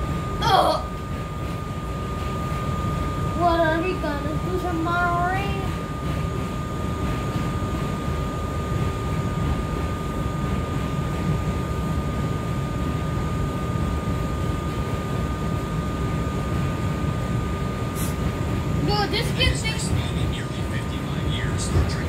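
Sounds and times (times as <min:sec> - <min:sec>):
high whine: 0:00.0 - 0:22.0
train rumbling on rails: 0:00.0 - 0:22.0.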